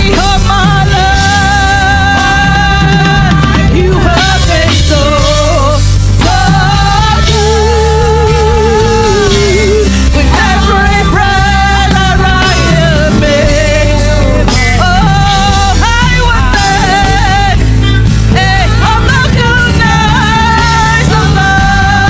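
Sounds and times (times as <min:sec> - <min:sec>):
gospel worship band: 0:00.0 - 0:22.0.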